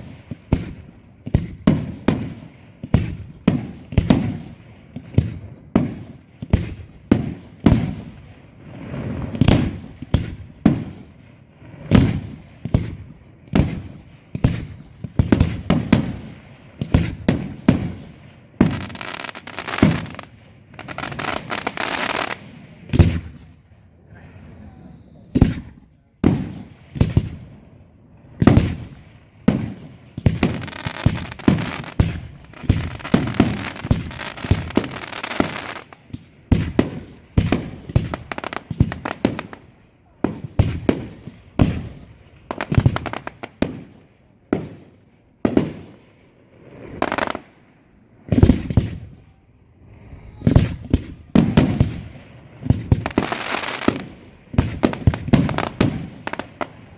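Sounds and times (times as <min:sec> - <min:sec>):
firework crackling: 0:00.0 - 0:56.9.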